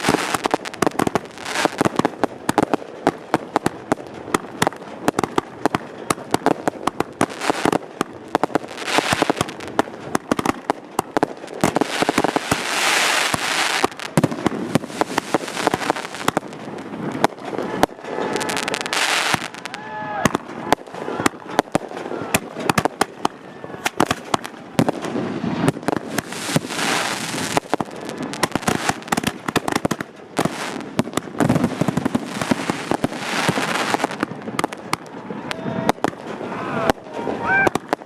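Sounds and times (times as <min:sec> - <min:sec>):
fireworks bangs and cracks: 0:00.0 - 0:38.0
fireworks hissing crackle: 0:00.0 - 0:38.0.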